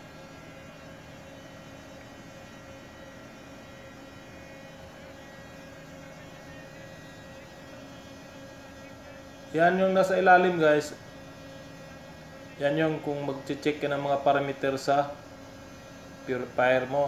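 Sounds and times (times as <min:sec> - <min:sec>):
fuel purifier machinery hum: 0:00.0 - 0:17.0.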